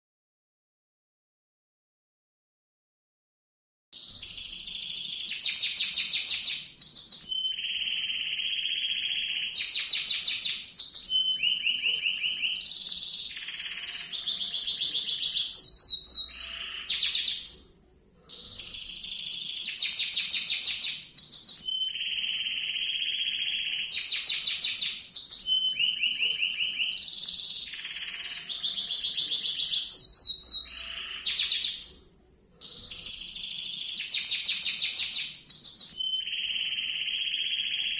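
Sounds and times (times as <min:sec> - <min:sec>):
canary singing trills: 0:04.0 - 0:17.6, 0:18.2 - 0:32.0, 0:32.6 - 0:37.9.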